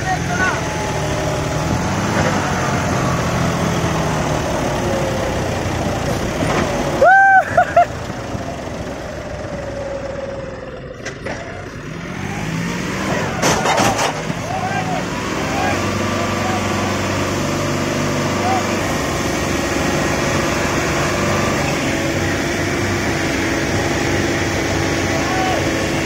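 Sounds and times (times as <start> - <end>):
tractor diesel engines labouring: 0.0 - 26.0.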